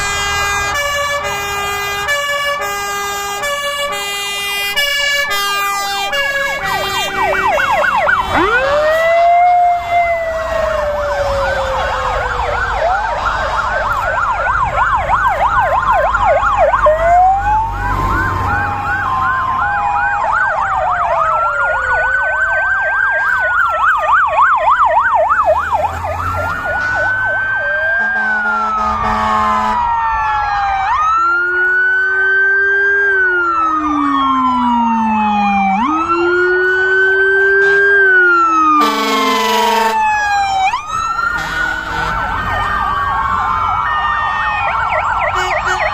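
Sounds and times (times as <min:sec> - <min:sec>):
fire engine sirens: 0:00.0 - 0:45.9
truck engines rumbling: 0:00.0 - 0:45.9.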